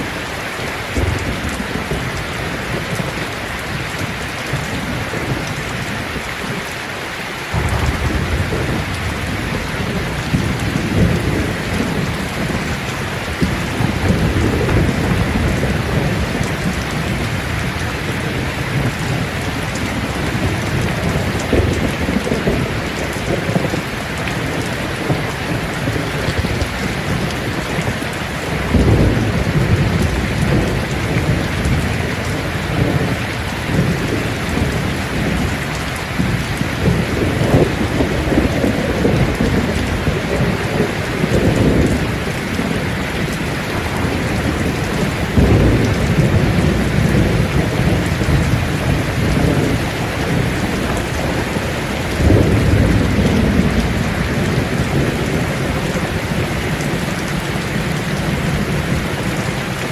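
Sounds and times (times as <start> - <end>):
rain falling on leaves: 0.0 - 59.9
thunder rumbling: 0.7 - 6.7, 7.5 - 59.9.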